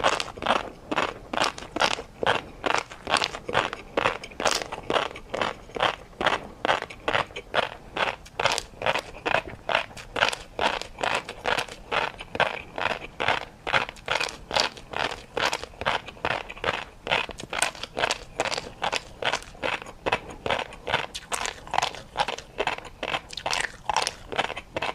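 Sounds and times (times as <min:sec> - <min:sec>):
person chewing crunchy food: 0:00.0 - 0:24.9.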